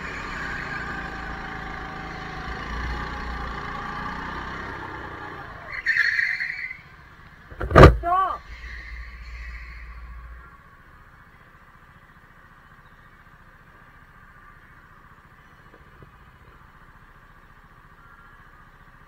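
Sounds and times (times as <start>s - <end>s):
go-kart engine running: 0.0s - 19.0s.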